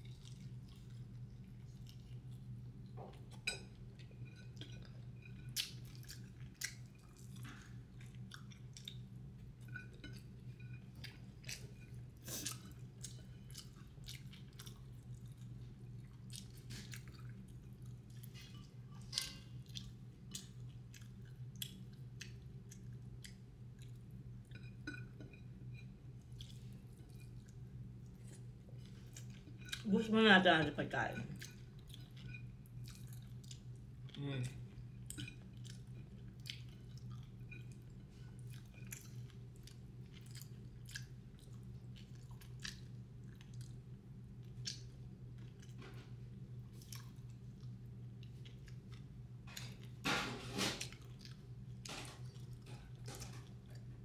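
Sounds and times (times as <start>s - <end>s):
person chewing food: 0.0s - 29.9s, 31.3s - 50.0s, 50.8s - 54.0s.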